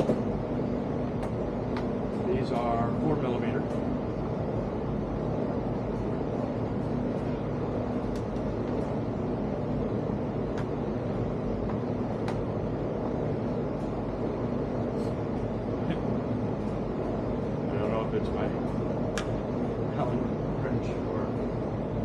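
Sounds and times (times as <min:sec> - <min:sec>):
low rumble with faint hum: 0:00.0 - 0:22.0.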